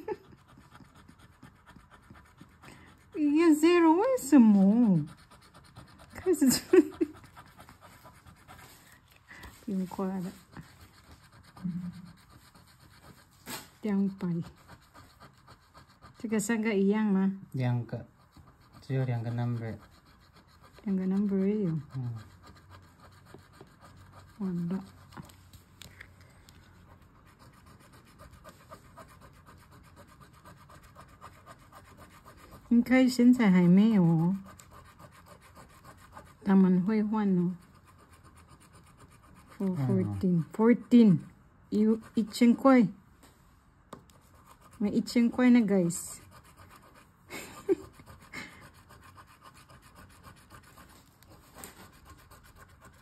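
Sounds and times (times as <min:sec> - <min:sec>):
coin scratching scratch card: 0:03.2 - 0:08.7, 0:09.6 - 0:25.3, 0:27.0 - 0:41.2, 0:44.1 - 0:53.0.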